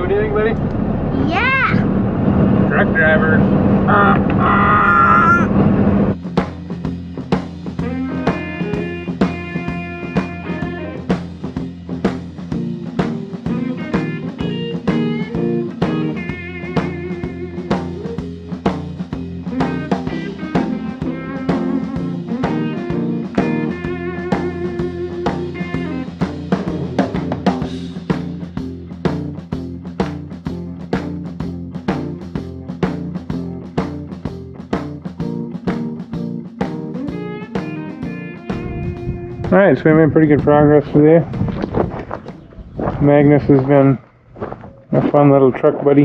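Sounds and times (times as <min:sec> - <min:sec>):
rock music with drums and guitar: 0:01.2 - 0:01.8, 0:06.0 - 0:44.0.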